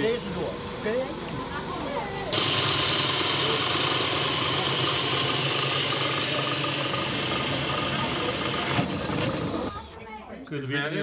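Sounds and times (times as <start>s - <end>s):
pillar drill whirring: 0.7s - 9.9s.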